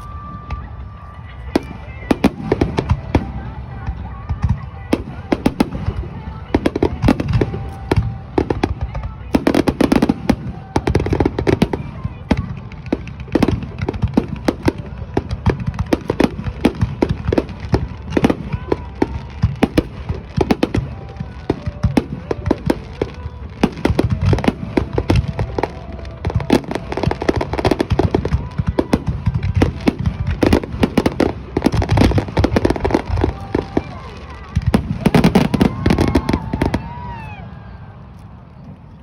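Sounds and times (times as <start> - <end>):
fireworks bursting: 0.0 - 39.0
fireworks crackle: 0.0 - 39.0.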